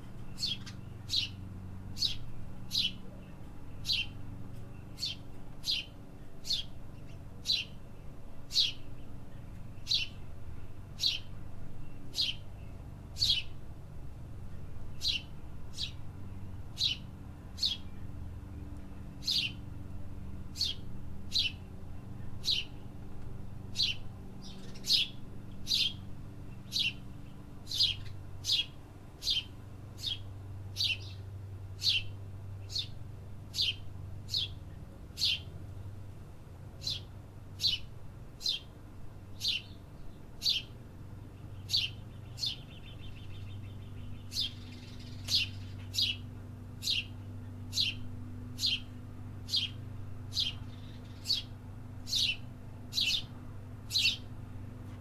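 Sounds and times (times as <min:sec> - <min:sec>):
bird chirping: 0:00.0 - 0:13.6, 0:14.5 - 0:19.6, 0:20.5 - 0:23.0, 0:23.6 - 0:35.6, 0:36.8 - 0:38.7, 0:39.3 - 0:40.8, 0:41.4 - 0:54.4.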